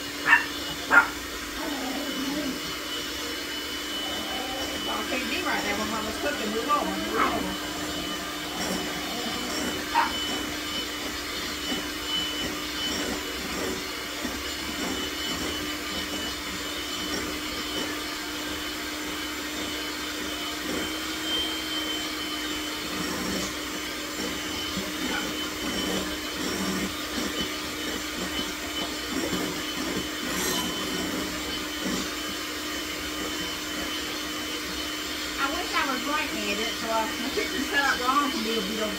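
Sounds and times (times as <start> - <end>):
electric mixer whirring: 0.0 - 38.9.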